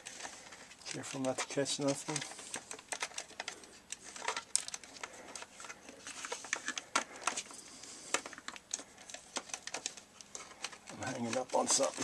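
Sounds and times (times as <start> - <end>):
plastic and metal clicks and scraping: 0.0 - 12.0.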